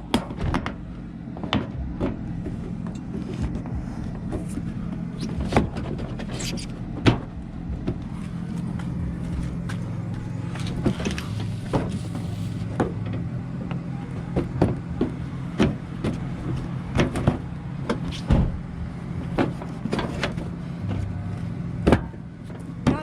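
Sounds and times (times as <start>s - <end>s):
clicks and knocks of car parts: 0.0s - 23.0s
steady low hum: 0.0s - 23.0s.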